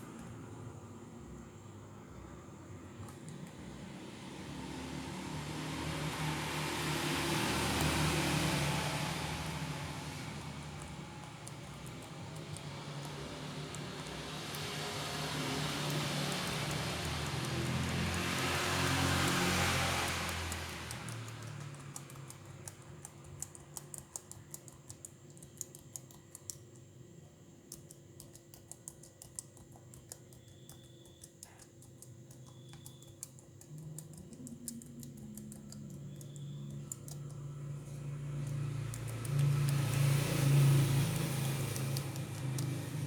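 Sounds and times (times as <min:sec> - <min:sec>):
laptop keyboard typing: 0:03.0 - 0:03.8, 0:06.0 - 0:43.0.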